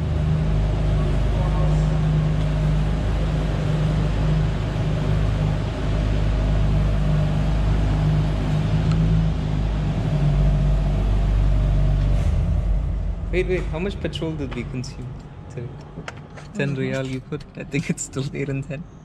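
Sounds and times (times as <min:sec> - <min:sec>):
deep engine exhaust drone: 0:00.0 - 0:19.0.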